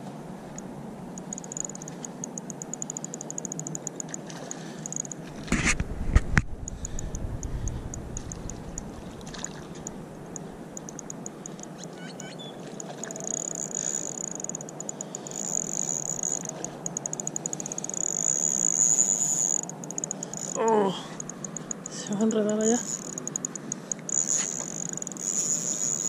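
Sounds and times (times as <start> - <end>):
fishing reel ticking and whirring: 1.2 - 5.3, 6.6 - 11.9, 12.7 - 26.0.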